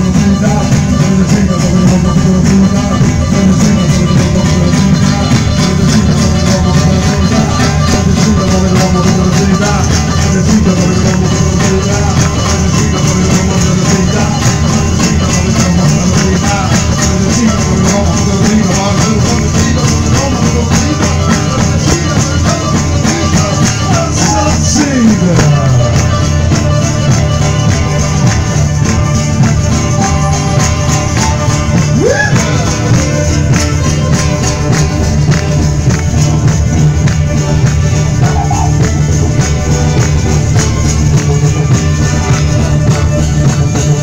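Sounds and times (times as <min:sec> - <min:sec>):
frame drums with jingles: 0:00.0 - 0:44.0
plucked stringed instrument: 0:00.0 - 0:44.0.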